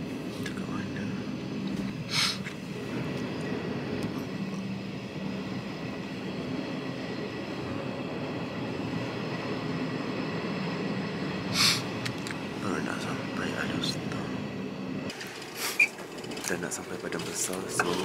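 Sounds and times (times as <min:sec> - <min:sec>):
low hum: 0:00.0 - 0:18.0
moving train rumble: 0:00.0 - 0:18.0.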